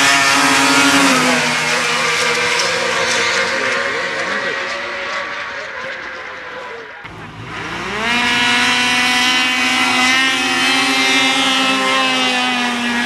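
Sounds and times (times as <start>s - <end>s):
snowmobile engines revving: 0.0s - 13.0s.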